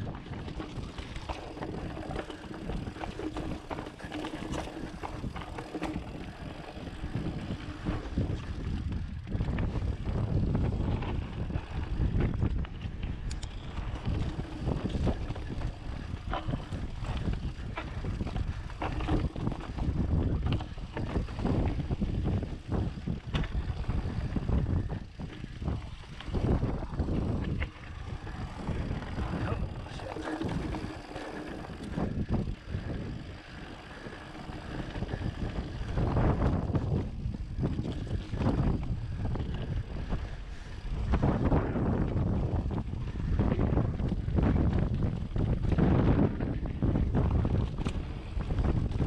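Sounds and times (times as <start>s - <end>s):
bike rattling over rocks: 0.0s - 49.0s
bike tyres rolling over stones: 0.0s - 49.0s
wind rumble on microphone: 0.0s - 49.0s.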